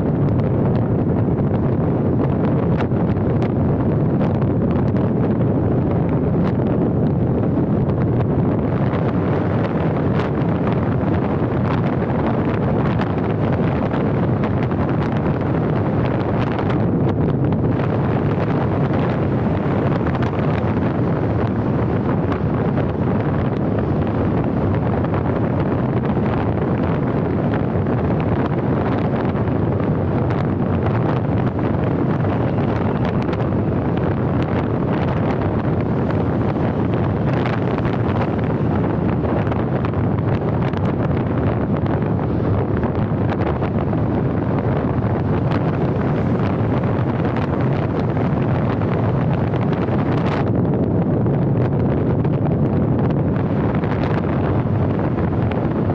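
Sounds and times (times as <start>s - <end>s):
car road and tyre noise: 0.0s - 55.9s
wind rushing over microphone: 0.0s - 55.9s.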